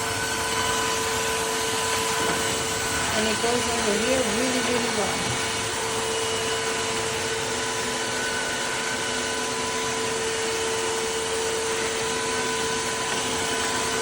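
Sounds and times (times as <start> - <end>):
vacuum floor cleaner running: 0.0 - 14.0.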